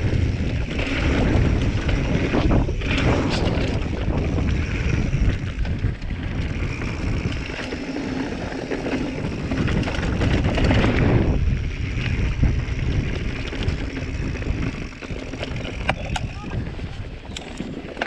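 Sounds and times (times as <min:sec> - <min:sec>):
bike knocks and rattles: 0:00.0 - 0:18.0
bike tyres rolling on dirt: 0:00.0 - 0:18.0
wind buffeting microphone: 0:00.0 - 0:18.0.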